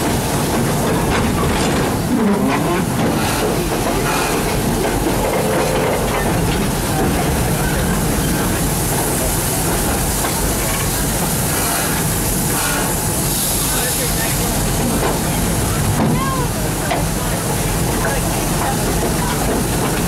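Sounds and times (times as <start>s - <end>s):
train rumble and wheel hiss: 0.0s - 20.0s.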